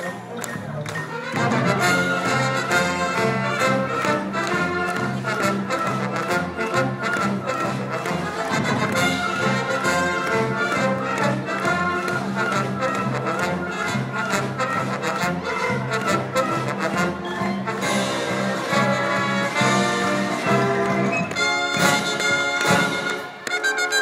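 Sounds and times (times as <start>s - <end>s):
percussion steady beat: 0.0s - 23.4s
brass notes: 0.0s - 24.0s.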